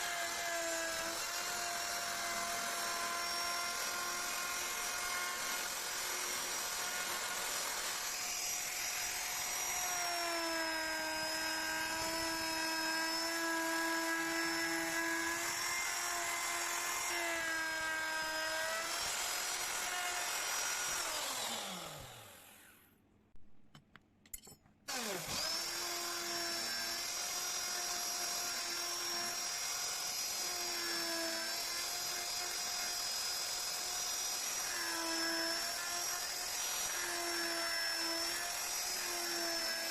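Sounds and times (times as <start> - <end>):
wood router whining: 0.0 - 22.9, 24.9 - 39.9.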